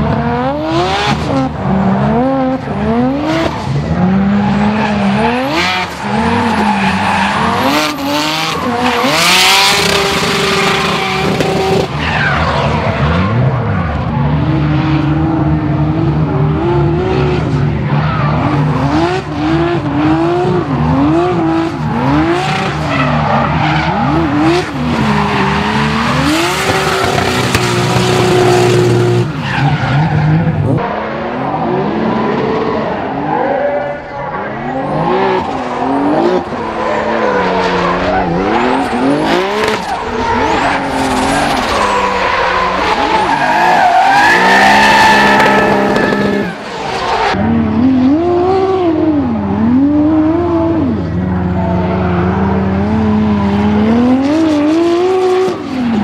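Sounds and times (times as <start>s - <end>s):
car engines revving hard: 0.0s - 56.0s
tyres skidding and squealing: 0.0s - 56.0s.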